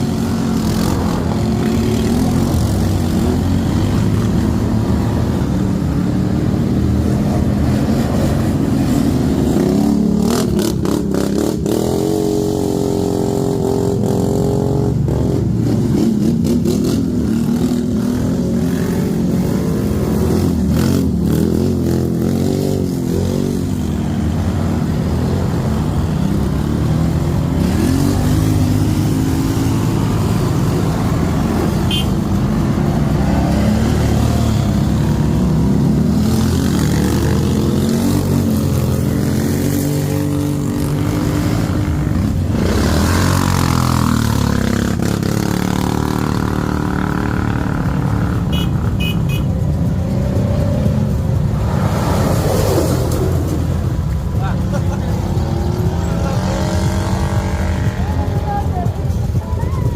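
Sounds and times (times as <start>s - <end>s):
atv engine revving: 0.0s - 59.7s.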